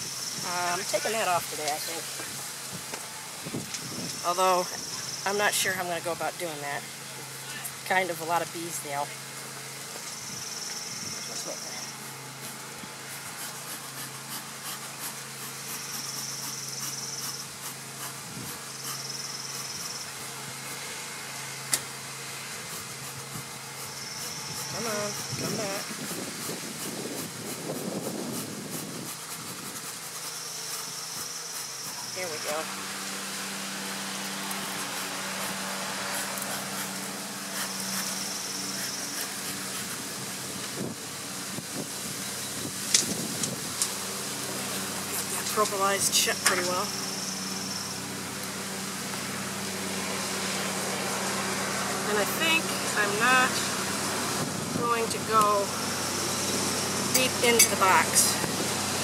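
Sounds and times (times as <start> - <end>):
honey bees buzzing: 0.0 - 59.0.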